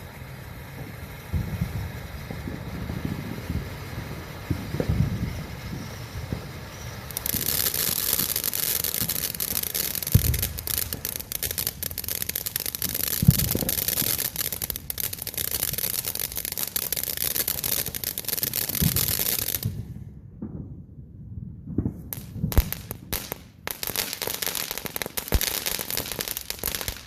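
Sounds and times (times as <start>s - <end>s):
ground firework hissing and crackling: 0.0s - 20.0s, 21.9s - 27.0s.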